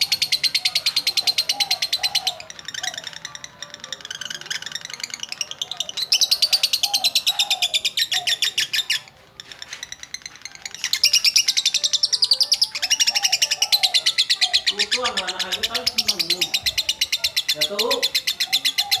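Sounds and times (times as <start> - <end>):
lovebird chirping trills: 0.0 - 19.0.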